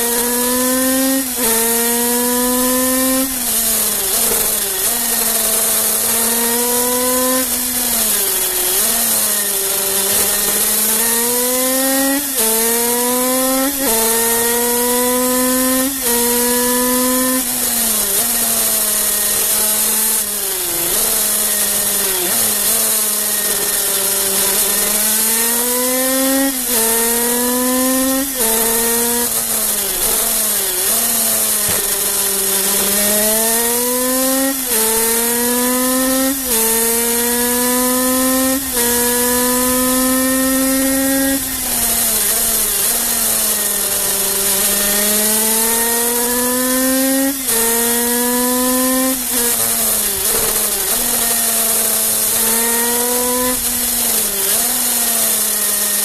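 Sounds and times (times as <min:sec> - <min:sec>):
racing engine at high revs: 0:00.0 - 0:56.0.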